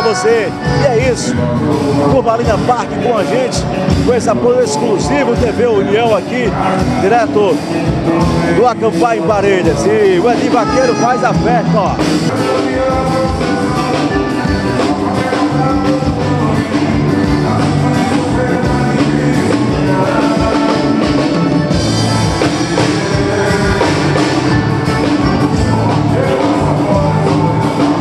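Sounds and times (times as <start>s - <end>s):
accordion: 0.0s - 28.0s
drum kit beat: 0.0s - 28.0s
electric bass: 0.0s - 28.0s
live band playing: 0.0s - 28.0s.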